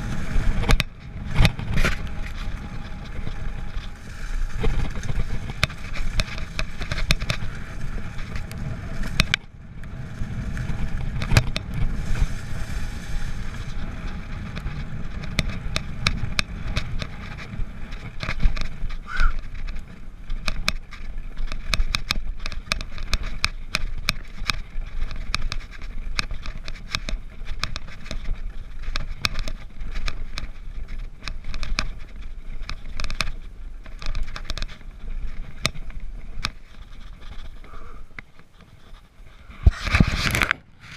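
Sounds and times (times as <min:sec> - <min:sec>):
bike clicks and rattles: 0:00.0 - 0:40.9
wind rumble on microphone: 0:00.0 - 0:40.9.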